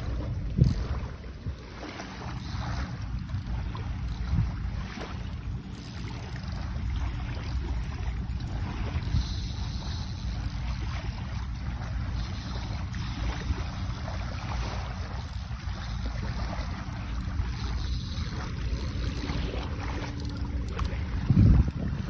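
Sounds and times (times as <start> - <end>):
light surf: 0.0 - 22.0
wind rumble on microphone: 0.0 - 22.0.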